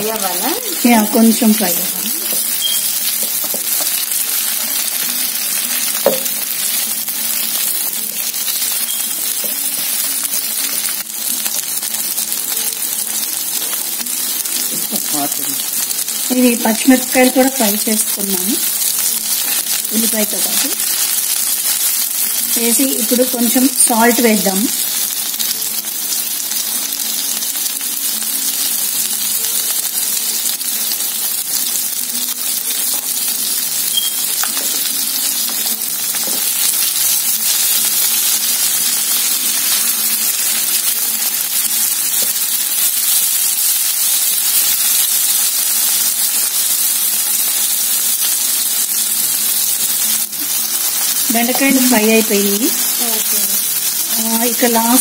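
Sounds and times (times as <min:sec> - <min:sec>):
okra sizzling in a pan: 0:00.0 - 0:55.0.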